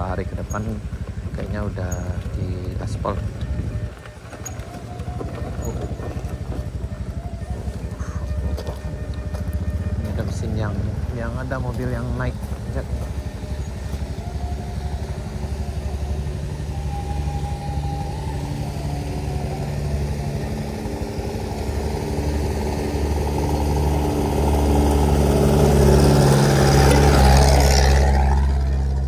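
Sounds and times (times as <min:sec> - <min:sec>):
tyre and road hiss: 0:00.0 - 0:29.0
vehicle engine running: 0:00.0 - 0:29.0.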